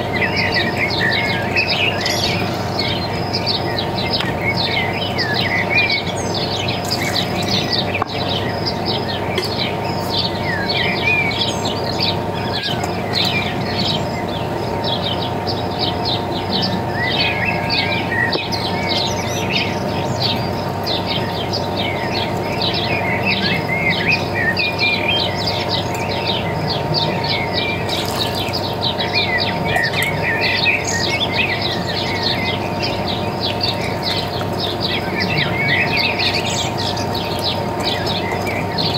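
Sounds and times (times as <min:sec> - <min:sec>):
birds chirping and trilling: 0:00.0 - 0:38.9
constant hum: 0:00.0 - 0:38.9.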